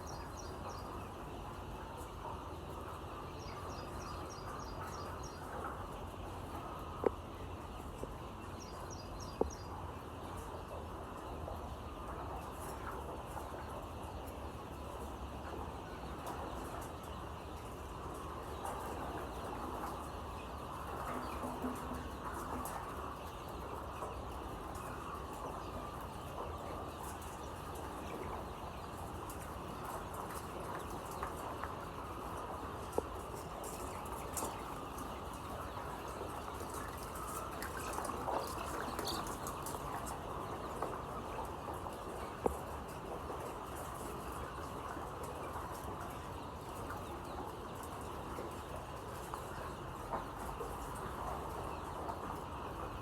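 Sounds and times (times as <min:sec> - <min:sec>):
flock of chickens clucking: 0:00.0 - 0:53.0.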